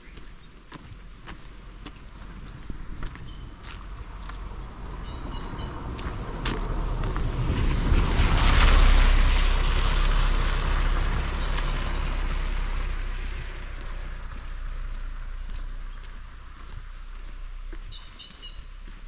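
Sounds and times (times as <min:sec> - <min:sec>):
car passing on wet road: 0:03.5 - 0:19.0.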